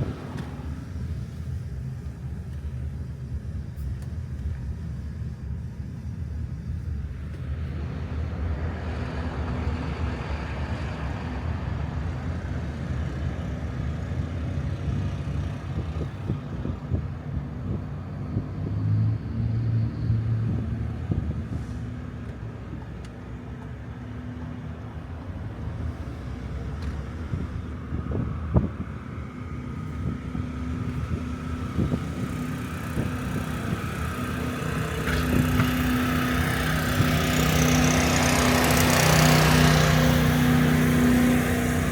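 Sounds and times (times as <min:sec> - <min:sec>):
higher engine tone: 0:00.0 - 0:41.9
vehicle engines rumbling: 0:00.0 - 0:41.9.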